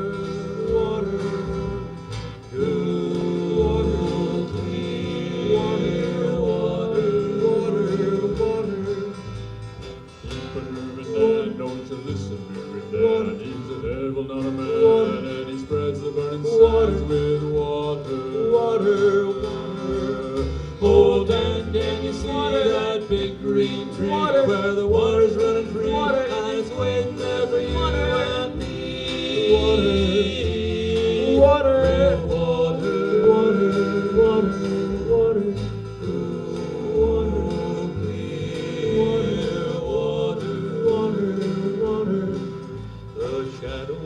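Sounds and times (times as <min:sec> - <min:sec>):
acoustic guitar: 0:00.0 - 0:44.0
held vocal harmonies: 0:00.0 - 0:44.0.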